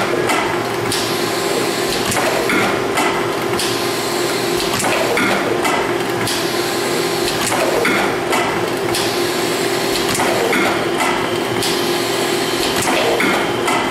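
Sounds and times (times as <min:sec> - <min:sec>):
machine clacking: 0:00.0 - 0:06.6, 0:07.2 - 0:09.2, 0:09.8 - 0:13.9
machine humming: 0:00.0 - 0:13.9.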